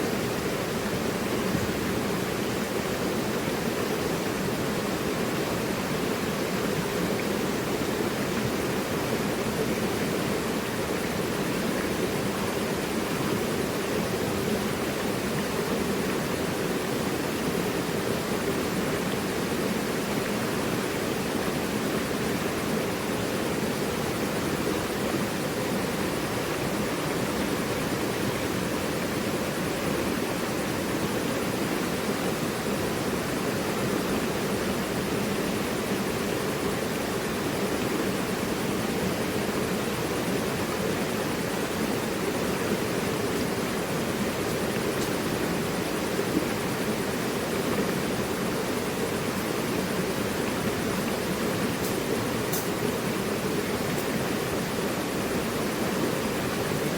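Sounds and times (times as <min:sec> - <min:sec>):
river rushing over rocks: 0:00.0 - 0:56.9.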